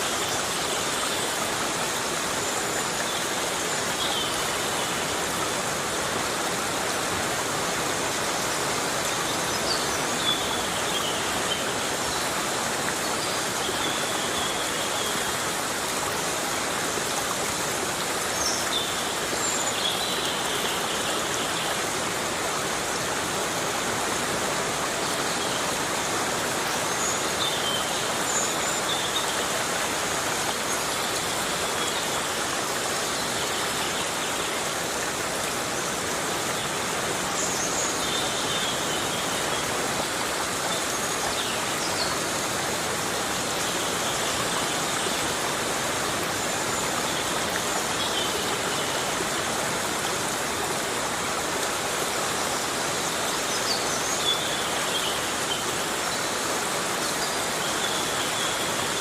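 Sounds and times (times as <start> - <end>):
heavy rain in a forest: 0.0 - 59.0.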